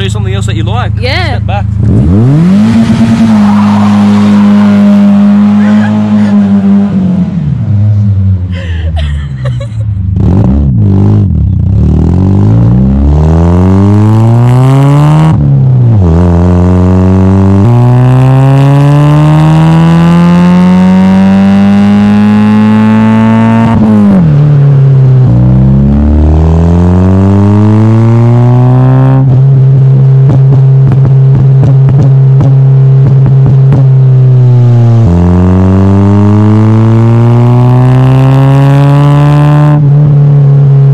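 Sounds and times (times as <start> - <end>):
loud car engine revving: 0.0 - 8.6, 9.5 - 40.9.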